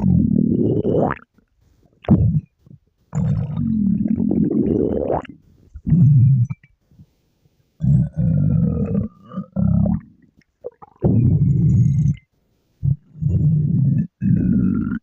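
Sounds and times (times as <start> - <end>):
stomach growling and gurgling: 0.0 - 6.9, 7.8 - 15.0.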